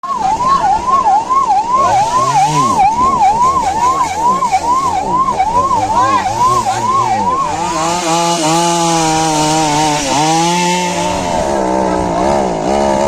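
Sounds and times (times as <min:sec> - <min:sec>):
siren wailing: 0:00.0 - 0:12.1.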